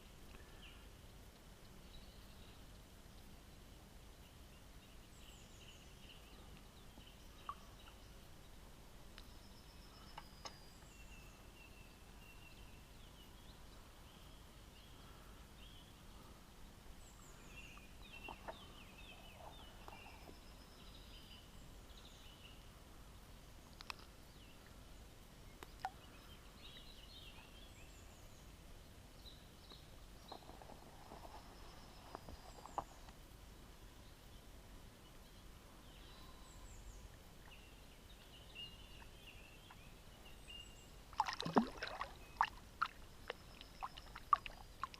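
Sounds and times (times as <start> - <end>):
small birds singing and chirping: 1.5 - 41.1, 42.0 - 44.9.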